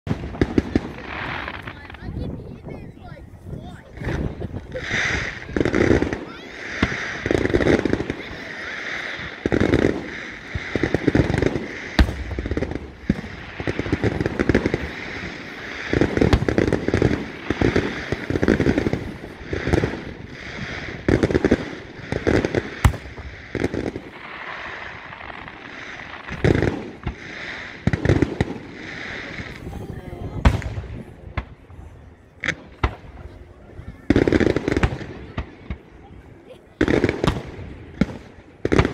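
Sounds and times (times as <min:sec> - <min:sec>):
fireworks booming: 0:00.0 - 0:38.9
sharp firework crack: 0:00.1 - 0:31.7, 0:32.4 - 0:36.0, 0:36.7 - 0:38.9.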